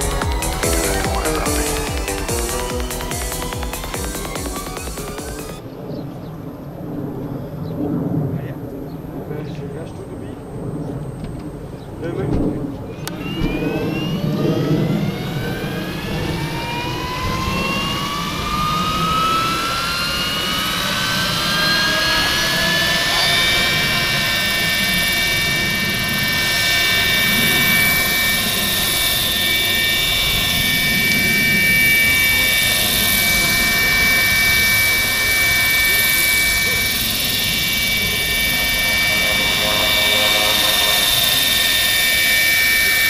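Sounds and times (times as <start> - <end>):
electric motor whine spooling up: 0.0 - 5.6, 12.9 - 43.0.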